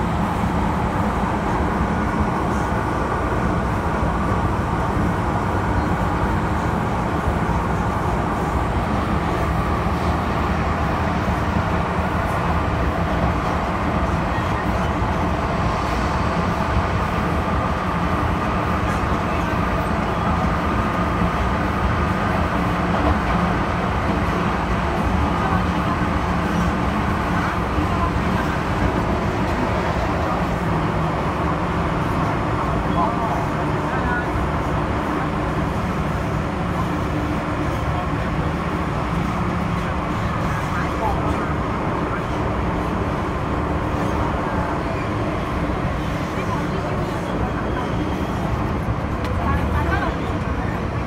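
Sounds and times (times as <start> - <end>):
train motor hum: 0.0 - 51.0
wheels rumbling on rail: 0.0 - 51.0.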